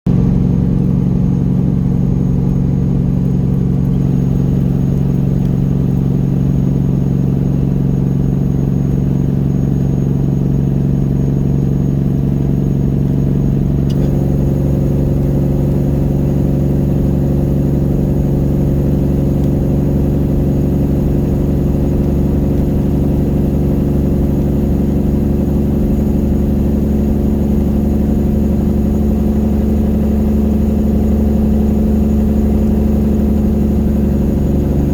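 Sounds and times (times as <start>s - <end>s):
diesel truck engine drone: 0.1s - 34.9s.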